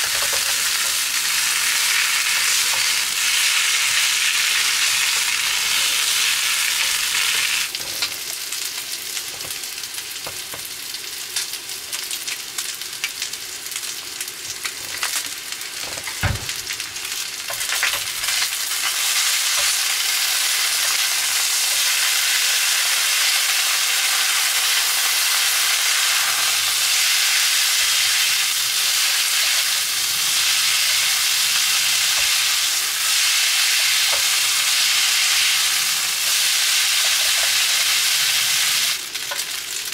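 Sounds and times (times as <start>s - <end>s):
noodles sizzling on hot plate: 0.0s - 39.9s.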